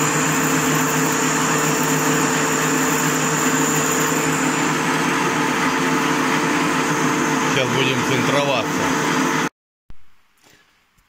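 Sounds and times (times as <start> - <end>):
lathe humming and whining: 0.0 - 9.5.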